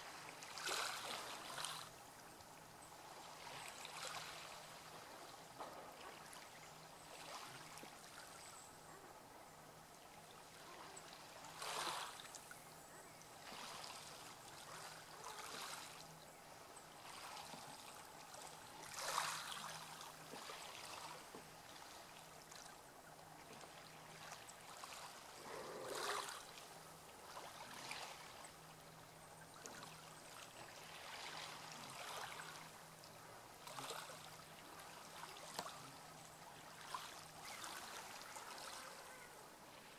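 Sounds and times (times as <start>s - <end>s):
sea water lapping: 0.0s - 39.9s.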